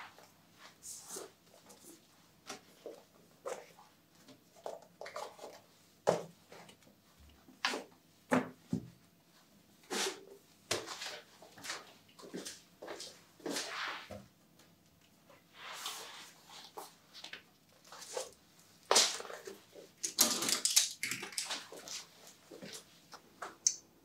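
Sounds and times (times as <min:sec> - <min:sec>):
books stacked on a pile: 0:00.0 - 0:20.6, 0:21.4 - 0:23.6.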